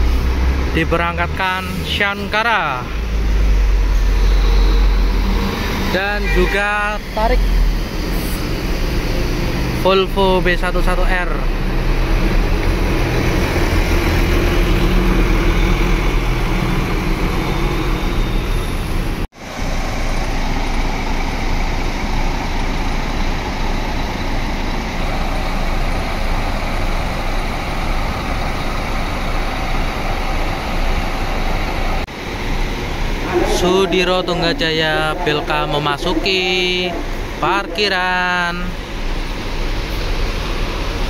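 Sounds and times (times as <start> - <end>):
diesel coach engine pulling away: 0.0 - 41.0
engine and traffic noise: 0.0 - 41.0.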